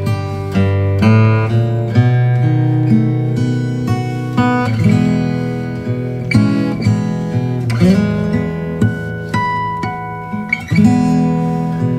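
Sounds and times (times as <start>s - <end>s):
acoustic guitar music: 0.0s - 11.9s.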